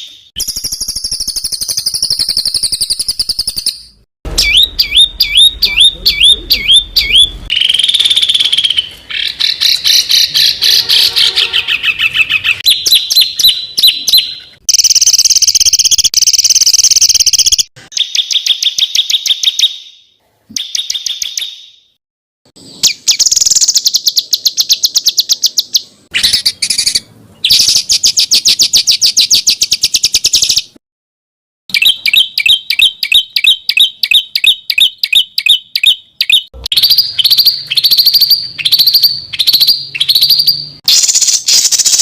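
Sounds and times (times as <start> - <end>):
songbirds trilling: 0.0 - 20.0, 22.6 - 30.7, 31.7 - 42.0.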